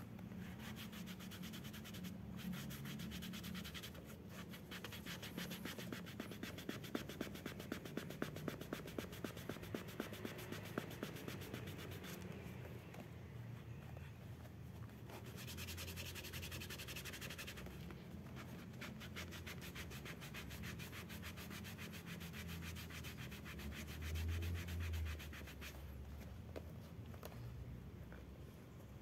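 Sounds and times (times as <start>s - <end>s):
cloth rubbing on bicycle saddle: 0.3s - 13.0s, 13.6s - 26.4s.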